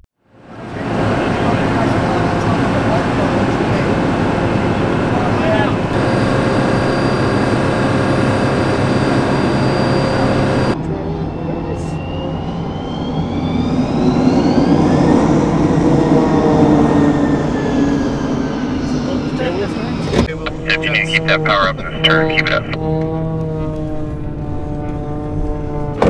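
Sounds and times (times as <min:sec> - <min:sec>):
jet engine whine: 0:00.3 - 0:26.0.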